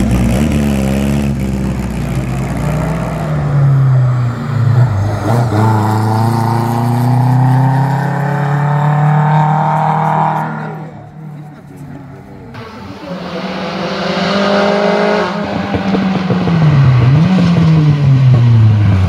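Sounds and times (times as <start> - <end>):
car engine accelerating: 0.0 - 19.0
car engine revving: 0.0 - 19.0.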